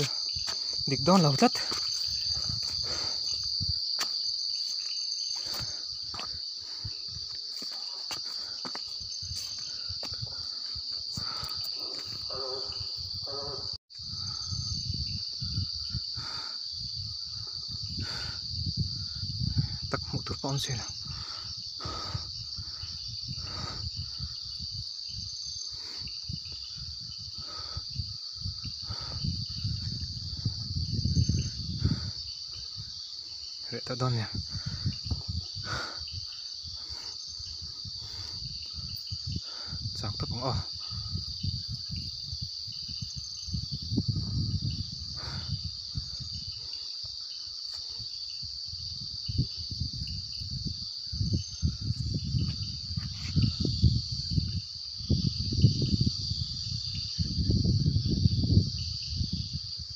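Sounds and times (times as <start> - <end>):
night insects chorus: 0.0 - 59.9.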